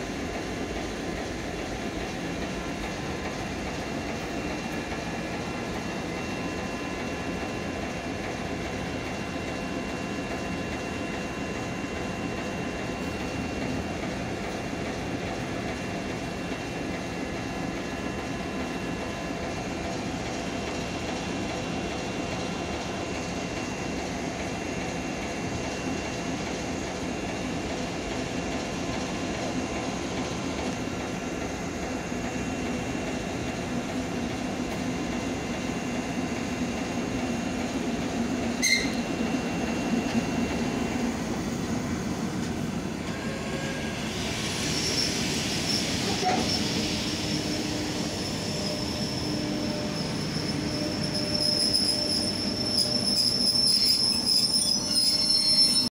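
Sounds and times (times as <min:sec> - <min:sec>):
electric train rolling: 0:00.0 - 0:55.9
high train whine: 0:00.0 - 0:55.9.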